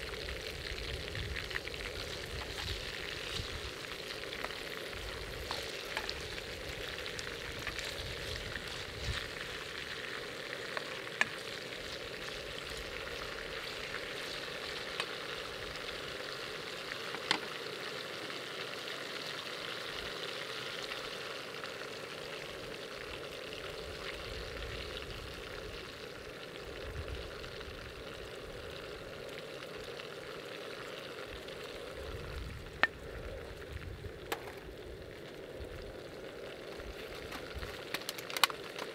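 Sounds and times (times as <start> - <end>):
oil sizzling in a pan: 0.0 - 38.9.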